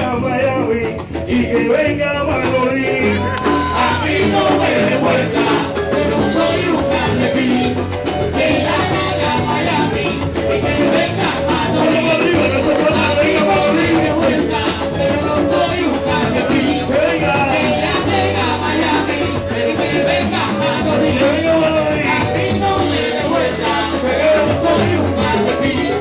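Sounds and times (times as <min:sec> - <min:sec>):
live reggaeton music: 0:00.0 - 0:26.0
man singing into a microphone: 0:00.0 - 0:26.0.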